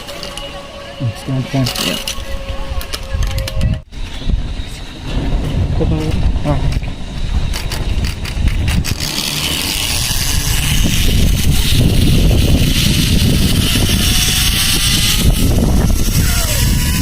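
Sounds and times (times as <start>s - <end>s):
pulleys whining along cable: 0.0s - 5.2s, 6.9s - 17.0s
wind rumbling on microphone: 1.0s - 17.0s.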